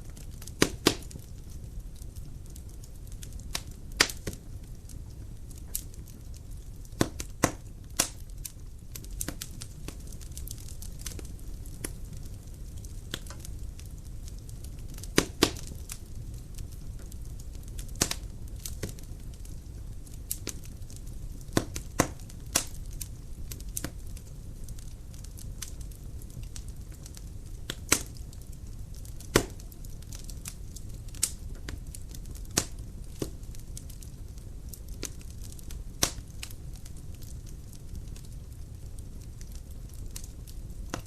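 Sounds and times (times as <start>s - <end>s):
firewood crackling and popping: 0.0s - 41.0s
rush of flames: 0.0s - 41.0s.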